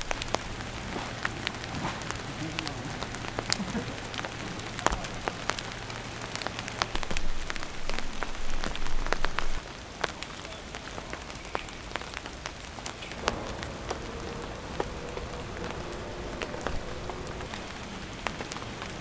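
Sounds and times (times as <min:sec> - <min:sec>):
raindrops tapping sharply: 0:00.0 - 0:19.0
steady rain: 0:00.0 - 0:19.0.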